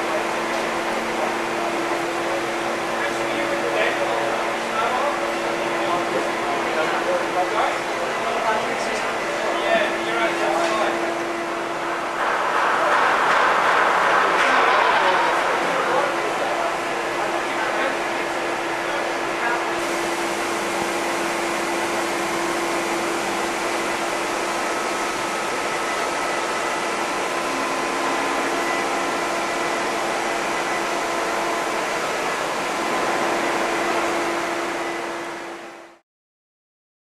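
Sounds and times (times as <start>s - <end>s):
machinery hum and whine: 0.0s - 36.0s.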